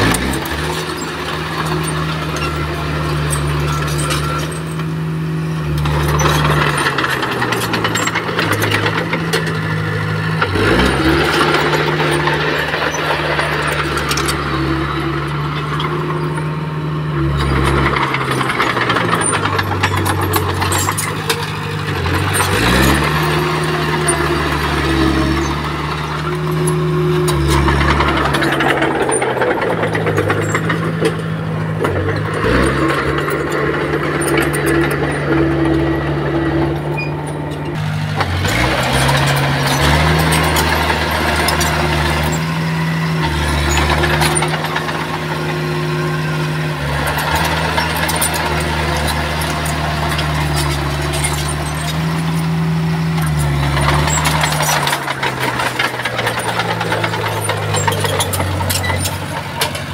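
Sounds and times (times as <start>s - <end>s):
bulldozer diesel engine revving: 0.0s - 59.9s
steady clatter: 5.7s - 59.9s.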